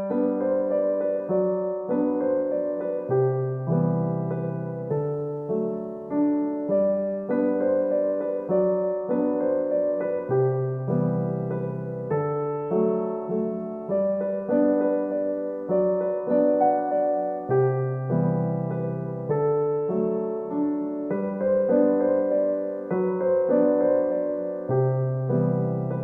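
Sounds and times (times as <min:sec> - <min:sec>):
gentle electric piano melody: 0:00.0 - 0:26.0.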